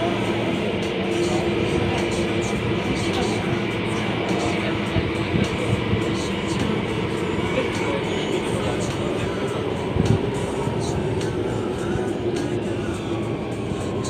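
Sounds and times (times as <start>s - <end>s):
train motor hum: 0.0s - 14.0s
train rumble and hiss: 0.0s - 14.0s.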